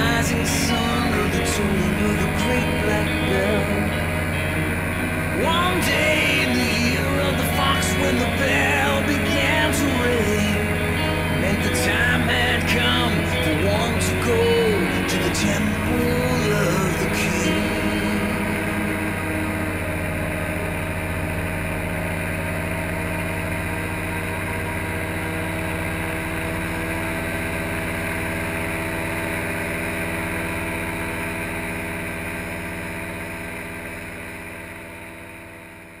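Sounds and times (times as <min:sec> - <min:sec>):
paramotor engine droning: 0:00.0 - 0:36.0.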